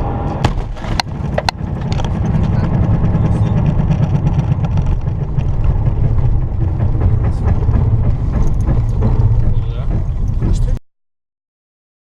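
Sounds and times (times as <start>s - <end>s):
engine and road noise: 0.0s - 10.8s.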